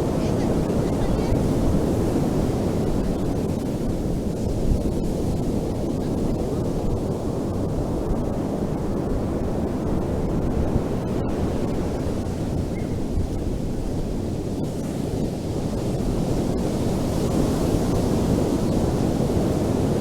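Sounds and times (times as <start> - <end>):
ocean waves washing on beach: 0.0 - 20.0.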